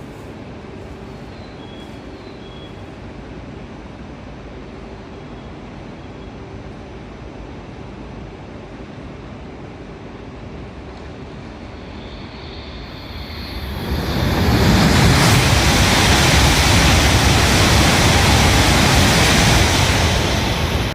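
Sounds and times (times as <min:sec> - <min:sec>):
high-speed train passing: 0:00.0 - 0:20.9.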